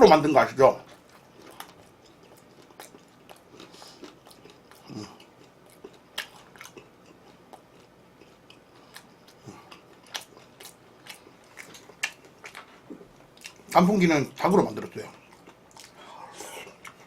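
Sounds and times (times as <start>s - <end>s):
person chewing crispy chicken: 0.8s - 13.7s, 15.2s - 17.0s.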